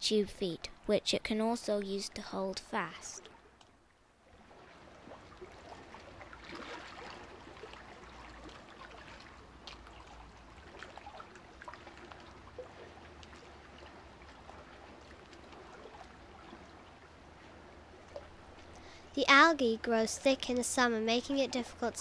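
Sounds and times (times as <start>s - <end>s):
watery trickling and crackling: 0.2s - 22.0s.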